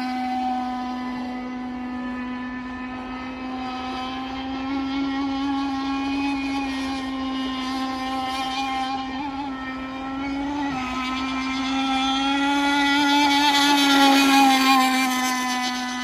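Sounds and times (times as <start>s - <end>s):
model boat engine buzzing: 0.0s - 16.0s.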